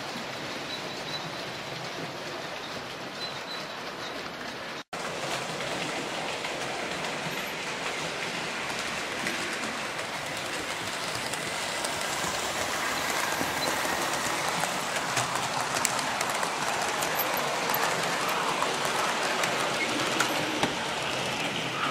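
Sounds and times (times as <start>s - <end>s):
model train wheels clicking on rails: 0.0s - 21.9s.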